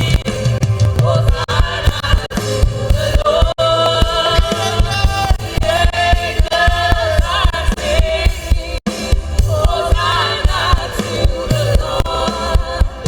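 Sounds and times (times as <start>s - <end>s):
band with drums and bass: 0.0s - 13.0s
gospel singing with backing voices: 0.0s - 13.0s.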